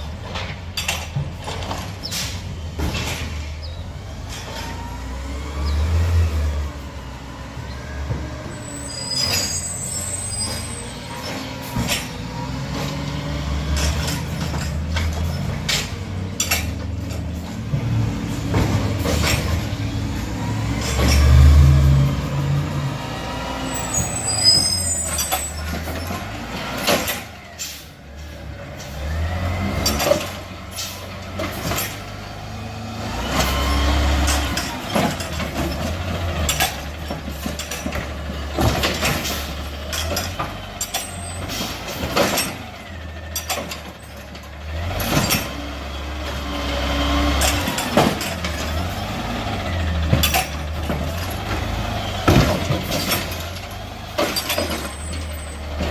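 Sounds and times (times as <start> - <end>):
diesel engine revving: 0.0 - 55.9
knocks and clanks: 0.1 - 4.8, 10.3 - 22.9, 23.8 - 27.8, 28.8 - 32.2, 33.3 - 55.9.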